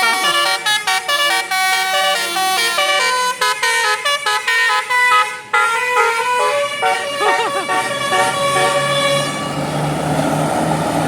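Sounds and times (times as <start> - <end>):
musical bus horn melody: 0.0 - 9.6.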